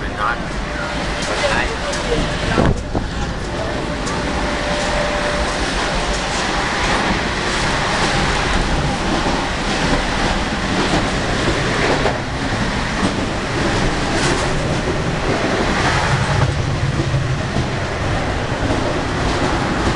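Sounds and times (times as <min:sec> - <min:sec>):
train rumble and rattle: 0:00.0 - 0:19.9.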